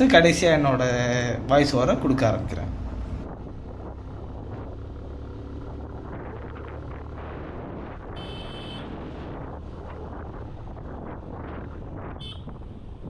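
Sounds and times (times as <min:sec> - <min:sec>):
wind and road noise: 0:00.0 - 0:13.0
motorcycle engine running: 0:02.0 - 0:13.0.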